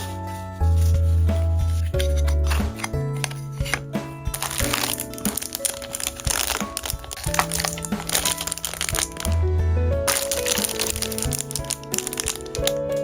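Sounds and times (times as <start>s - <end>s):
gentle background music: 0.0s - 13.0s
packaging crinkling: 0.8s - 9.4s, 10.1s - 12.9s.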